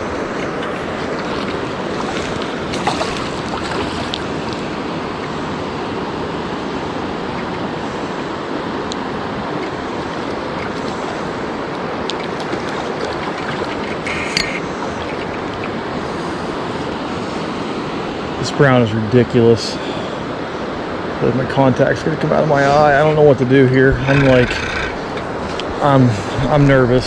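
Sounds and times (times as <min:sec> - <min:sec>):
creek water rushing: 0:00.0 - 0:27.0.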